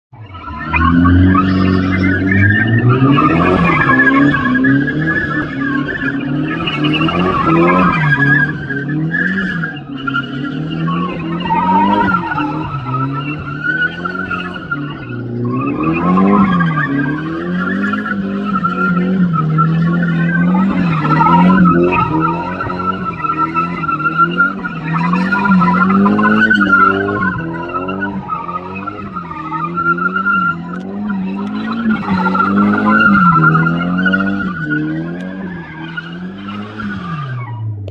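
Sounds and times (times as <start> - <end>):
tyres squealing: 0.2 - 37.7
car engine revving: 0.2 - 37.9.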